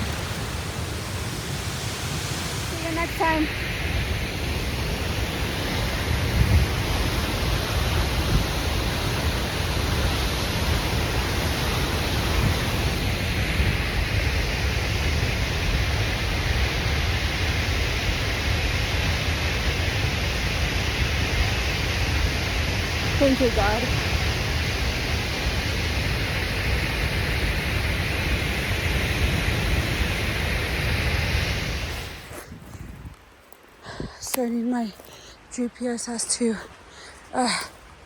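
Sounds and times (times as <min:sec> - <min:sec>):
wind blowing on microphone: 0:00.0 - 0:34.9.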